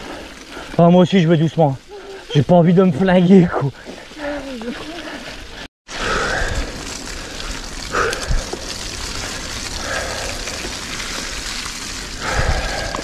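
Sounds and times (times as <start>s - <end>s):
bike tyre and rattle noise: 0.0s - 13.0s.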